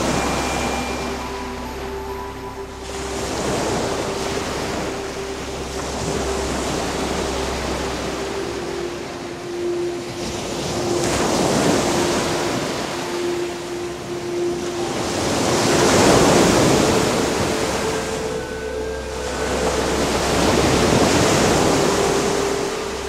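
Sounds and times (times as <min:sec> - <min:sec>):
steady held tone: 0:00.0 - 0:23.0
surf-like rush: 0:00.0 - 0:23.0.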